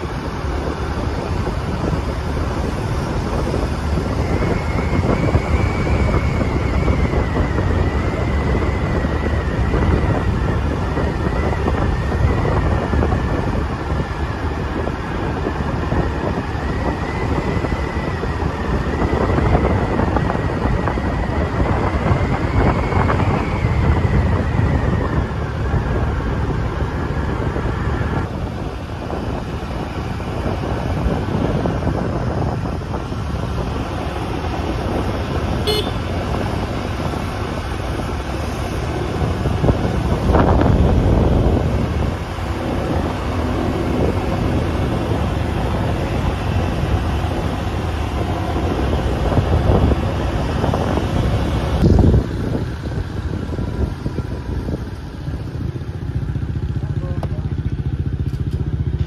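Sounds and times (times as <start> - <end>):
motorcycle engine and road rumble: 0.0 - 59.0
wind buffeting microphone: 0.0 - 59.0.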